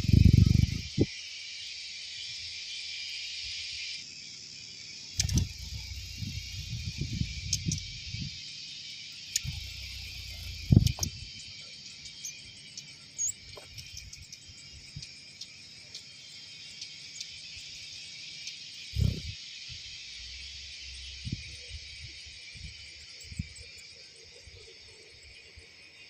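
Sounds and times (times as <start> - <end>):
chorus of insects: 0.0 - 26.0.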